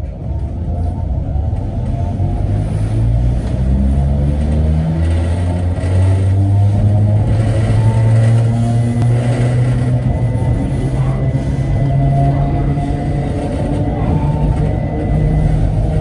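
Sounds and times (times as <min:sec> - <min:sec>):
train motor and wheel hum: 0:00.0 - 0:16.0.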